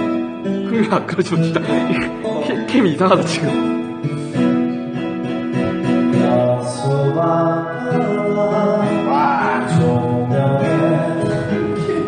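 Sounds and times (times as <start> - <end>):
karaoke backing track with guitar: 0.0 - 12.0
man singing into microphone: 0.5 - 4.4, 6.1 - 12.0.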